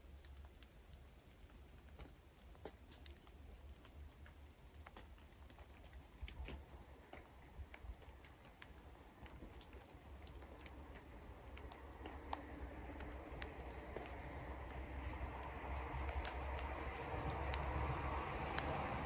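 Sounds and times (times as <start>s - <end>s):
light ticks and pattering: 0.0s - 19.0s.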